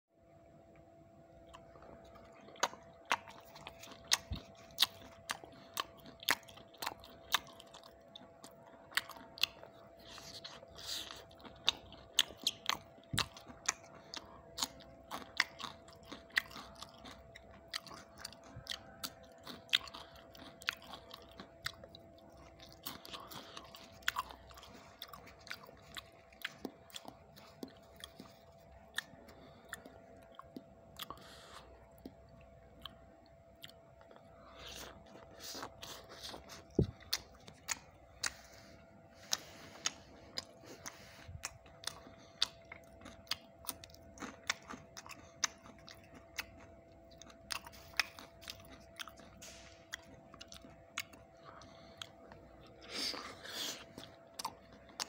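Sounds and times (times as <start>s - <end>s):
person chewing food: 0.7s - 55.0s.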